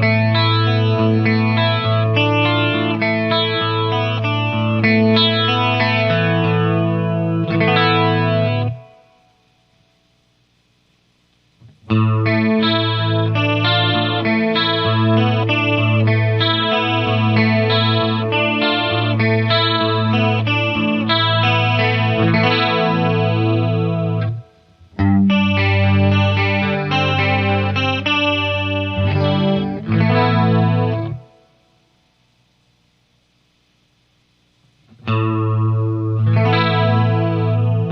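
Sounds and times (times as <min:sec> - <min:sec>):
electric guitar with chorus effect: 0:00.0 - 0:10.3, 0:11.3 - 0:32.6, 0:34.7 - 0:37.9.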